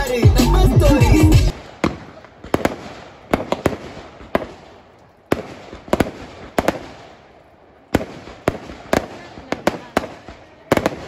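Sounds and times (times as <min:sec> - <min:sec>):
fireworks bangs with echo: 0:01.5 - 0:11.0.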